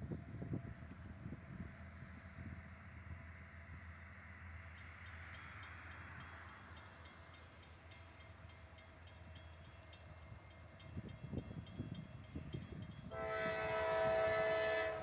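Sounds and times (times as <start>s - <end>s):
distant diesel train rumble: 0.0s - 15.0s.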